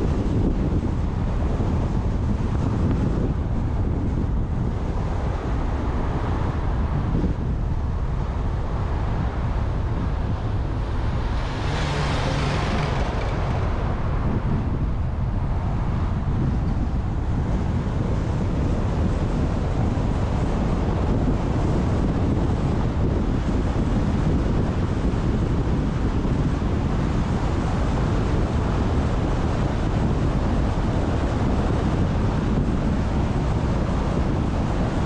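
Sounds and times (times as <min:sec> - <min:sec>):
car rumbling on paved road: 0:00.0 - 0:35.0
wind buffeting microphone: 0:00.0 - 0:35.0.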